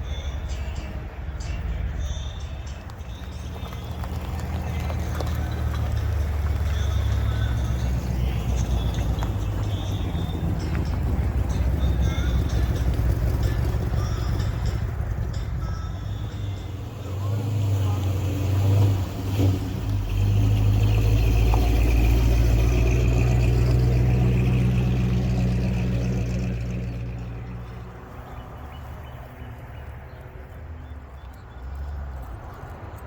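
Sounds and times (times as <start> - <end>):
car driving past: 1.9 - 33.0.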